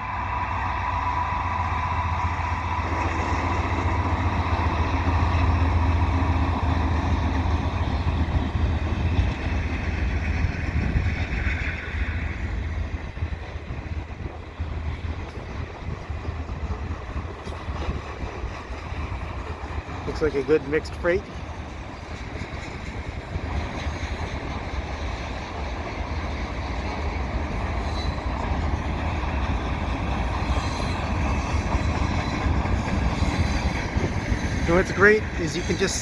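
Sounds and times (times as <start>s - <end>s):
diesel locomotives droning past: 0.0s - 36.0s.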